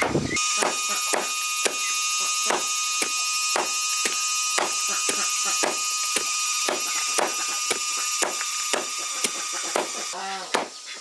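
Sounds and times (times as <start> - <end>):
high-pitched whine: 0.2 - 10.3.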